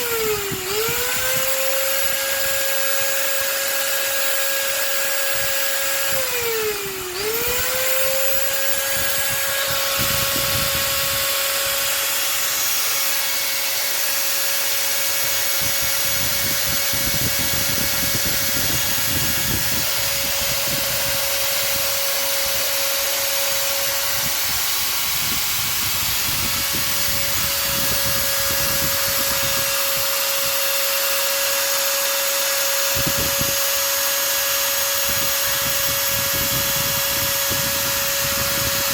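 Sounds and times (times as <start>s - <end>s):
angle grinder whining: 0.0s - 38.9s.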